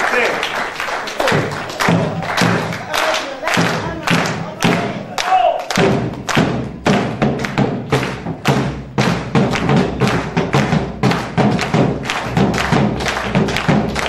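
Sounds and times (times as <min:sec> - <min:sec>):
loud percussive thumps: 0:01.2 - 0:05.1, 0:05.7 - 0:14.0.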